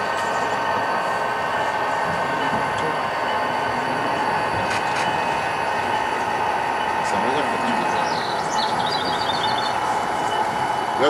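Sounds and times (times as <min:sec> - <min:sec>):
model train rolling on track: 0:00.0 - 0:11.0
steady humming tones: 0:00.0 - 0:11.0.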